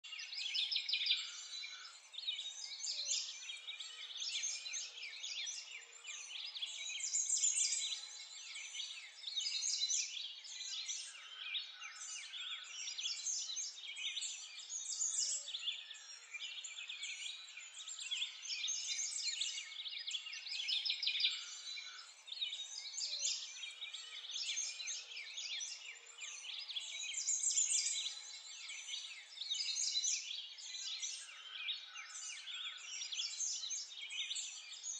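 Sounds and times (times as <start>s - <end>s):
songbirds chirping and twittering: 0.0s - 34.9s.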